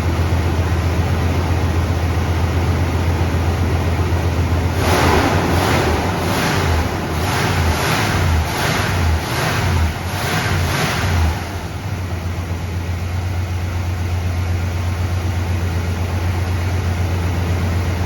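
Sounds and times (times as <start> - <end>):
car engine revving and idling: 1.2 - 18.0.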